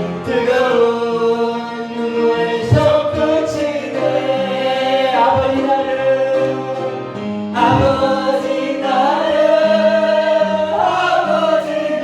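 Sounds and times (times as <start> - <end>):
sustained accompaniment: 0.0 - 12.0
voices singing worship song: 0.0 - 12.0.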